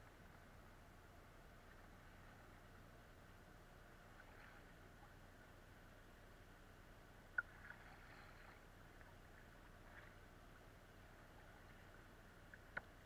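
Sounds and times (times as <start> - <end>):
paddle drips and swishes: 1.2 - 6.1, 7.2 - 13.0.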